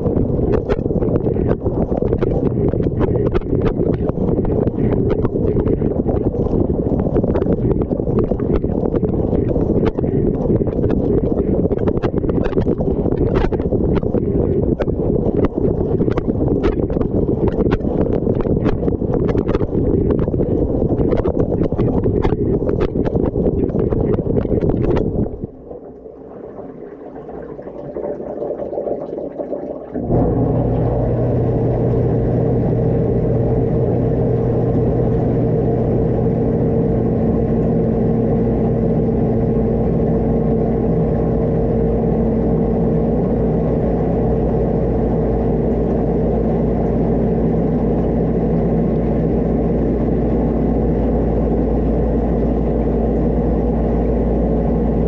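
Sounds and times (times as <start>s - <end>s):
wash pump motor humming: 0.0s - 55.0s.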